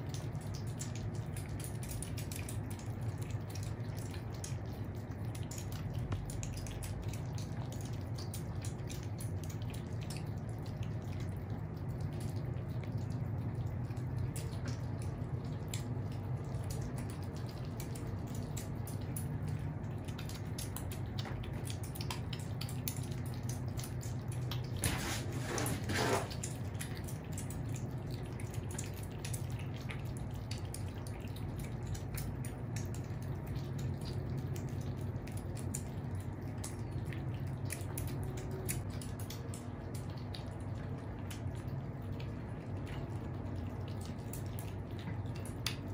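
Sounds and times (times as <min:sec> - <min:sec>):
cats lapping and smacking: 0:00.0 - 0:45.9.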